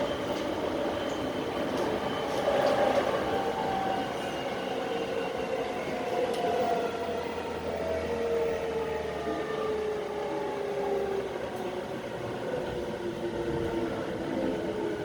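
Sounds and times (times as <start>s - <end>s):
train rail and running noise: 0.0s - 15.0s.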